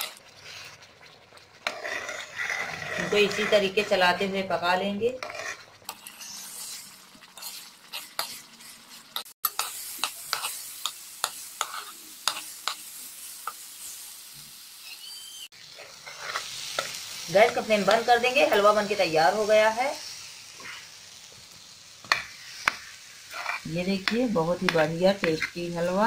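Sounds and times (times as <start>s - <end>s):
metal spatula scraping a pan: 0.0s - 4.2s, 5.0s - 14.2s, 15.6s - 19.0s, 20.0s - 21.0s, 22.0s - 26.0s
ghee sizzling: 0.0s - 26.0s.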